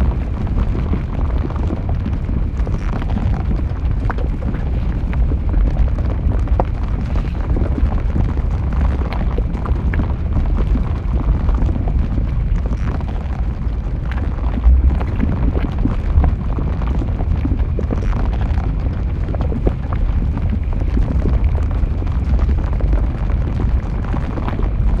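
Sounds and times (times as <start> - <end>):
lava crackling and popping: 0.0 - 25.0
lava rumbling: 0.0 - 25.0.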